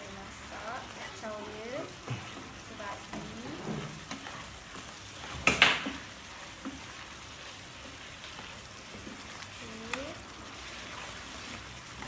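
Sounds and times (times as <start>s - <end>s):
paste sizzling in oil: 0.0s - 12.0s
spatula stirring in pan: 0.0s - 12.0s.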